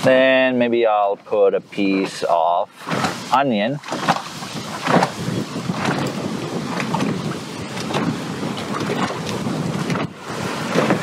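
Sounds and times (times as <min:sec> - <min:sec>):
wind buffeting microphone: 0:01.6 - 0:11.0.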